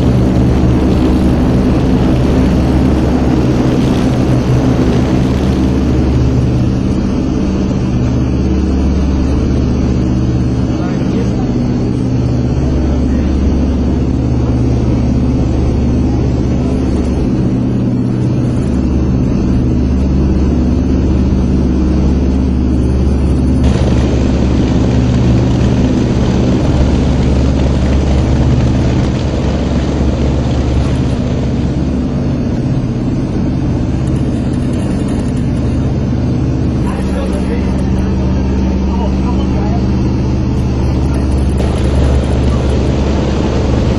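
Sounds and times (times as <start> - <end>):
propeller aircraft engines droning: 0.0 - 43.9.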